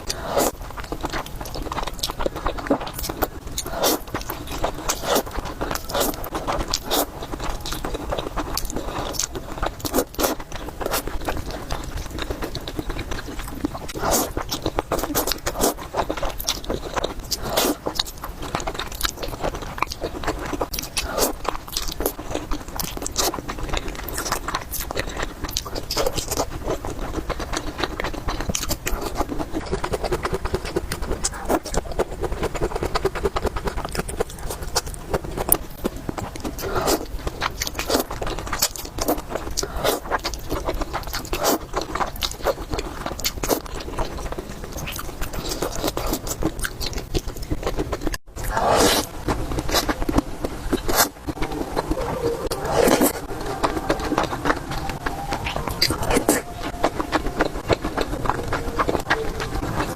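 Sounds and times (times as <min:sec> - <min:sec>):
person chewing noodles: 0:00.0 - 0:59.9.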